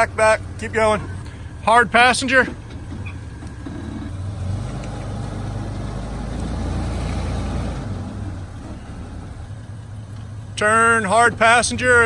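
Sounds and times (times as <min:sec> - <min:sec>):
off-road engine under load: 0:00.0 - 0:12.0.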